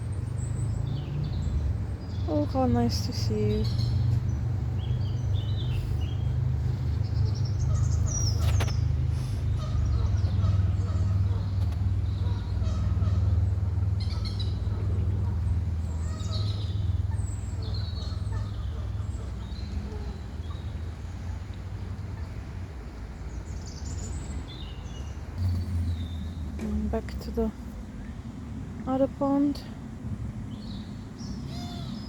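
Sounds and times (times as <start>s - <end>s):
birds chirping: 0.0s - 32.0s
steady low rumble: 0.0s - 32.0s.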